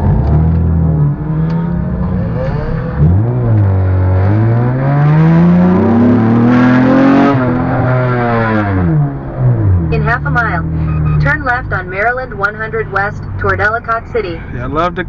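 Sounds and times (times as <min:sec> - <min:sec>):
car engine revving while driving: 0:00.0 - 0:12.2.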